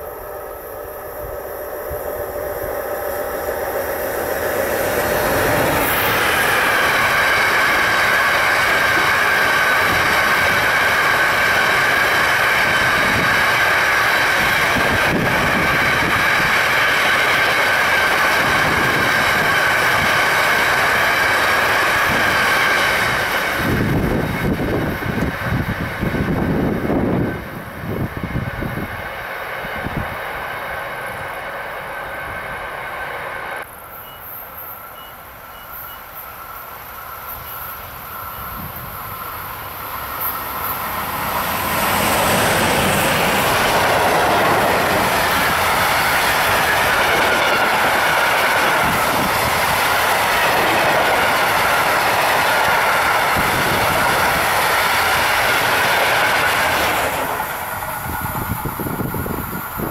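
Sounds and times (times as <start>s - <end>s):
train passing close by: 0.0s - 59.9s.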